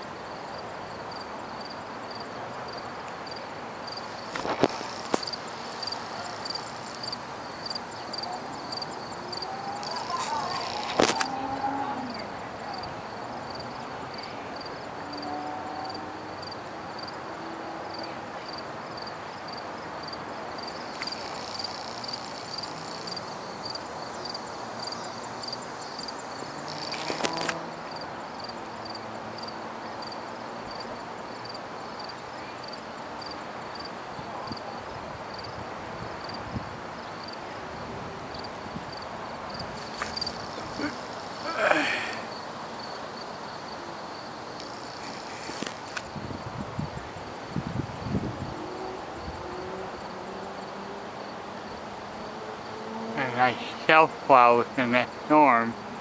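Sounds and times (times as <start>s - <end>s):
crickets chirping: 0.0s - 56.0s
outdoor background noise: 0.0s - 56.0s.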